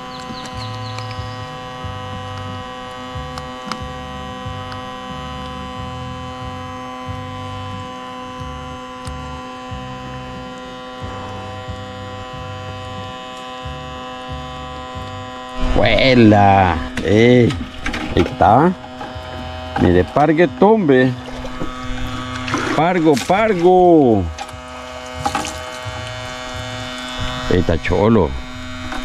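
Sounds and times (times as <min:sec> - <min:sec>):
low throbbing: 0:00.0 - 0:29.0
steady multi-tone hum: 0:00.0 - 0:29.0.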